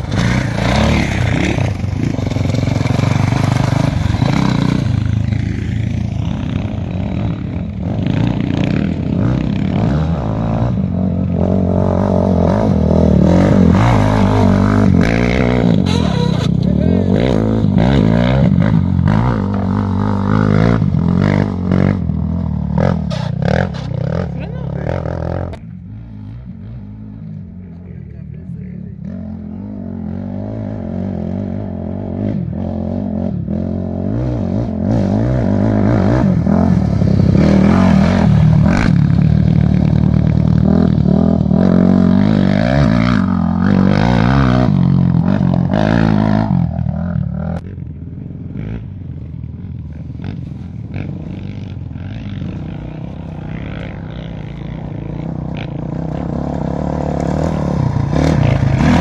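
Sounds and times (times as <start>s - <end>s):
vehicle engine running loudly: 0.0s - 59.0s.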